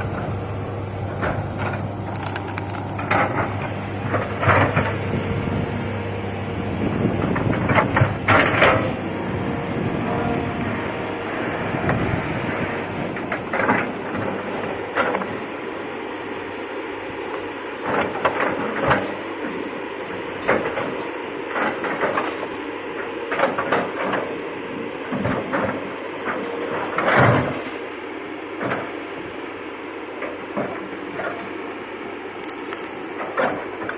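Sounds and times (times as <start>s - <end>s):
excavator running: 0.0s - 33.9s.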